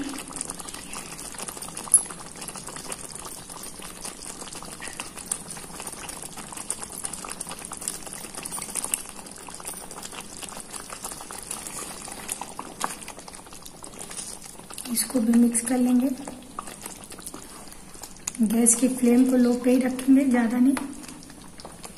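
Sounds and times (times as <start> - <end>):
gravy simmering and bubbling: 0.0 - 21.9.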